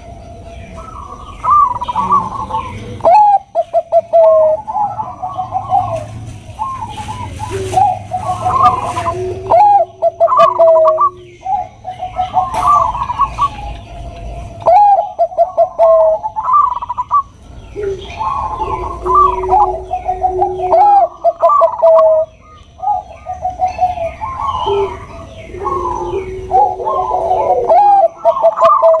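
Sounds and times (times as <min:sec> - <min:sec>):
doves cooing: 0:00.0 - 0:29.0.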